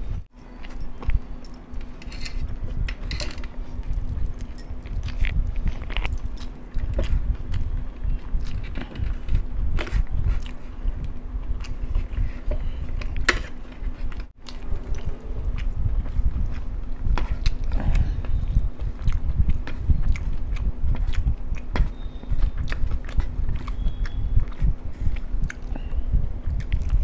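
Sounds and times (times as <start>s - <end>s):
person chewing: 3.5s - 27.0s.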